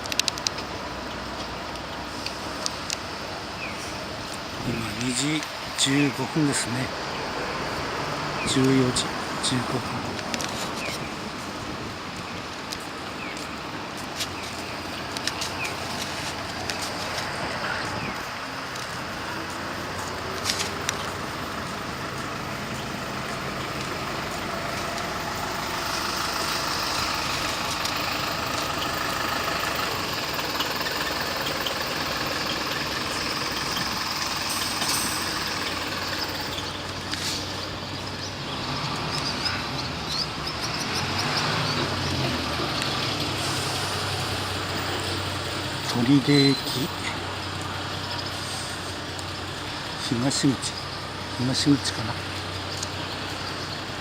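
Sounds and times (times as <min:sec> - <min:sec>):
vehicles passing on road: 0:00.0 - 0:54.0.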